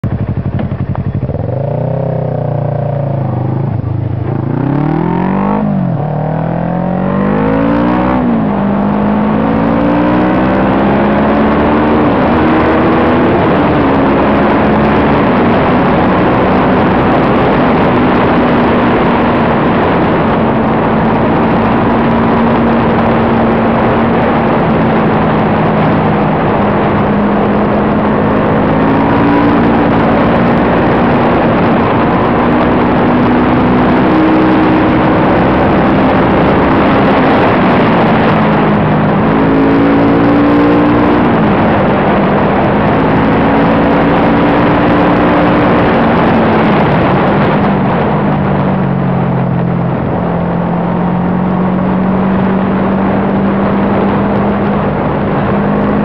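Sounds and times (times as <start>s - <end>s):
motorcycle engine revving: 0.0s - 56.0s
wind rushing: 0.2s - 56.0s.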